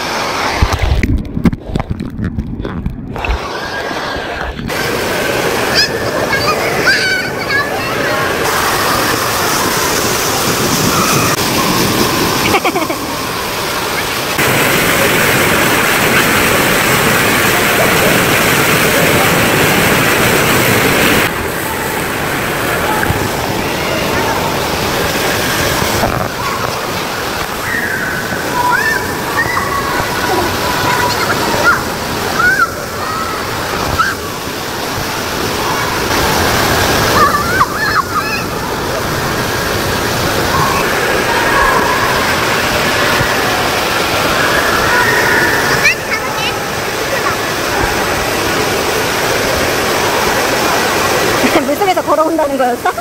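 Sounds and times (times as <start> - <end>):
water pouring into a pool: 0.0 - 53.0
children's voices: 3.4 - 19.5, 21.2 - 49.2.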